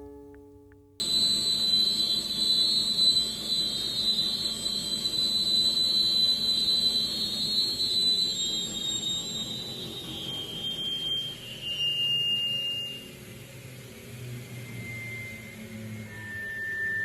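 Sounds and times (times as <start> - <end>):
cutting machine whining: 1.0 - 17.0.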